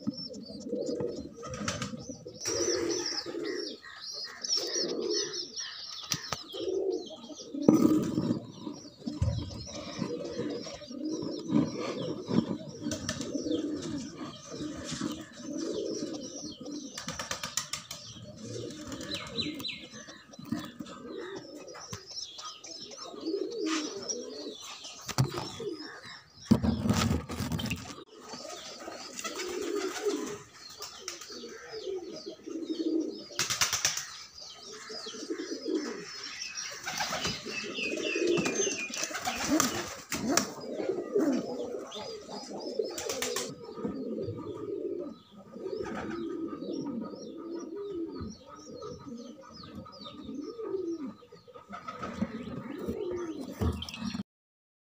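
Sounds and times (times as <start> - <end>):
pigeons cooing: 0.0 - 54.2.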